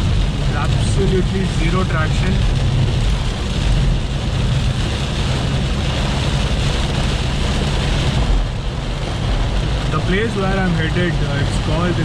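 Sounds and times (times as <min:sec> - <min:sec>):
rain and tyre spray hissing: 0:00.0 - 0:12.0
road and engine rumble: 0:00.0 - 0:12.0.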